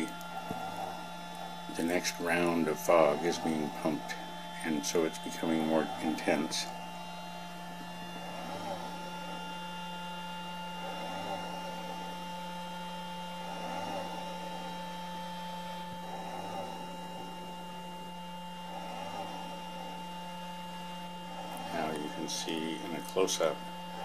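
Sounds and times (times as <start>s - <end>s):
projector motor humming: 0.0s - 24.0s.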